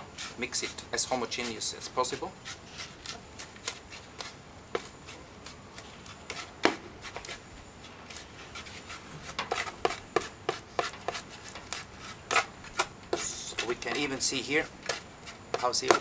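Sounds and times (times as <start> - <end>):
hand trowel scraping sand: 0.0 - 16.0.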